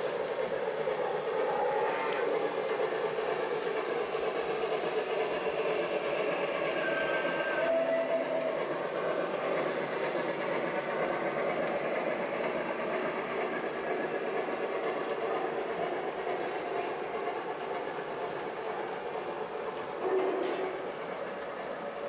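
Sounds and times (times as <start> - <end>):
model train cars rolling on track: 0.0 - 22.0.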